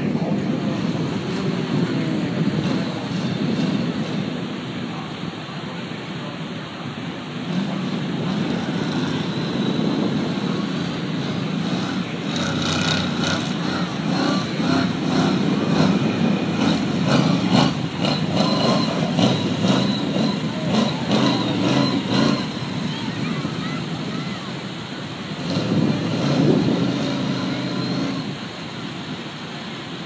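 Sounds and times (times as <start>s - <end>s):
large vehicle engine running: 0.0s - 30.0s.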